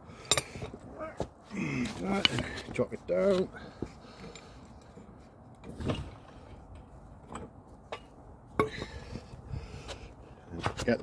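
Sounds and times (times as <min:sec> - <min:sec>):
knocks and clunks of jack and tools: 0:00.2 - 0:11.0.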